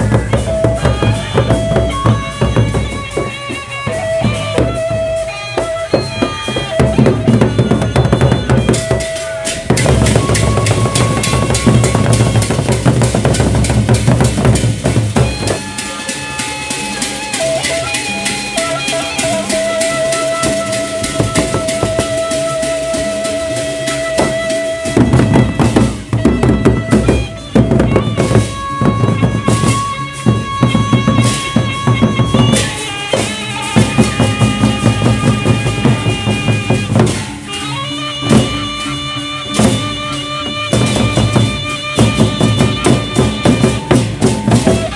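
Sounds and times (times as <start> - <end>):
rhythmic drumming: 0.0 - 44.9.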